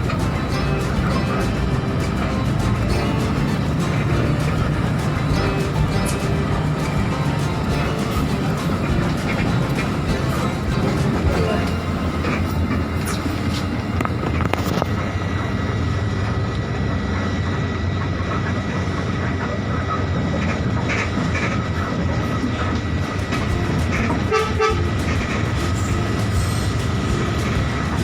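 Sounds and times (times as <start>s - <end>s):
bus diesel engine running: 0.0s - 28.0s
rattle and road noise: 0.0s - 28.0s.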